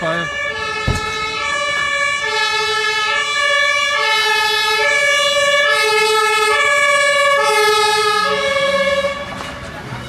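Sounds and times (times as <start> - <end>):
two-tone emergency siren: 0.0 - 9.8.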